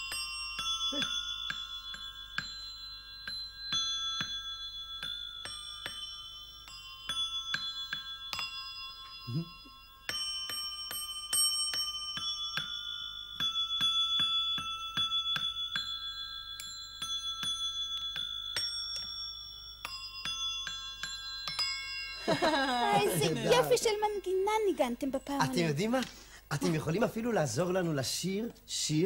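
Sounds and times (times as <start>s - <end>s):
tuned bells struck with mallets: 0.0s - 25.9s.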